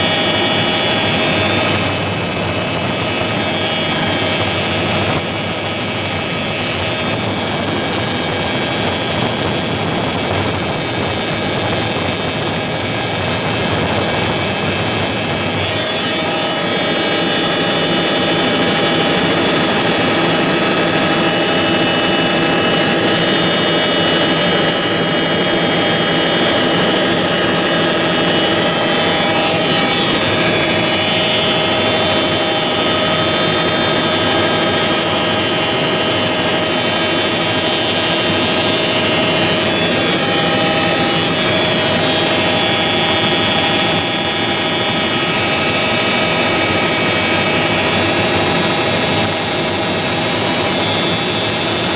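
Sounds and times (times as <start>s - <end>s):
helicopter engine and rotor drone: 0.0s - 51.9s
high whining tones: 0.0s - 51.9s.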